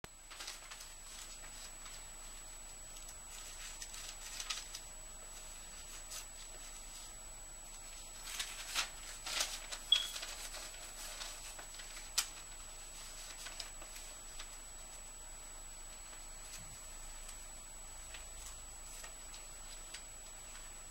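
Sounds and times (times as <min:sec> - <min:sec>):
paper and cards rustling: 0:00.2 - 0:20.9
sharp paper crackle: 0:00.2 - 0:20.9.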